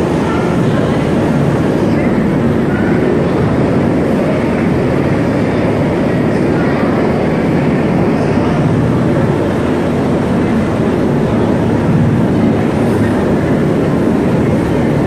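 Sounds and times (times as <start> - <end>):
helicopter hovering overhead: 0.0 - 15.0.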